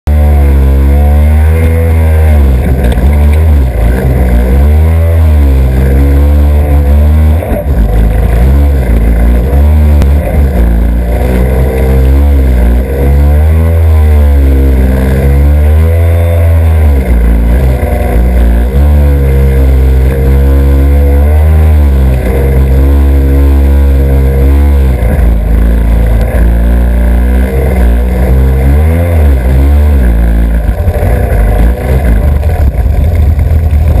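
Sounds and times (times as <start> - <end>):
heavy low rumble: 0.0 - 34.0
jet ski engine running hard: 0.4 - 34.0.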